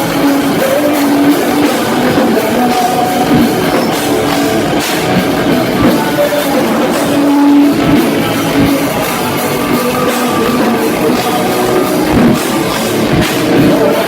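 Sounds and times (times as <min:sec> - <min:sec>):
drum kit: 0:00.0 - 0:14.0
electric guitar: 0:00.0 - 0:14.0.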